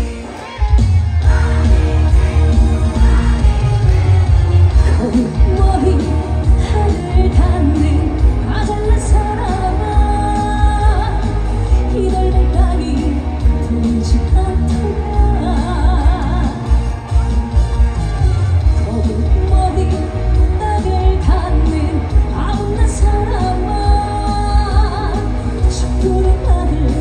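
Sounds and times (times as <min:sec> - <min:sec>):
woman singing with vibrato: 0:00.0 - 0:17.0, 0:18.8 - 0:27.0
backing track with heavy bass: 0:00.0 - 0:27.0.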